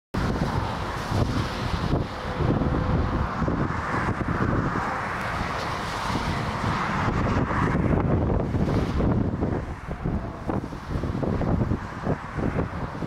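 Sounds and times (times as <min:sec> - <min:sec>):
turboprop airplane drone: 0:00.2 - 0:13.0
wind buffeting microphone: 0:00.2 - 0:13.0.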